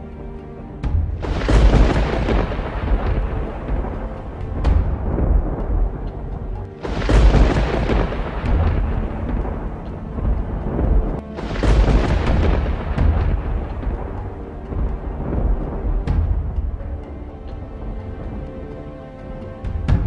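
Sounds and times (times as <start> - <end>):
dramatic soundtrack music: 0.0 - 20.0
thunderclaps: 0.9 - 20.0.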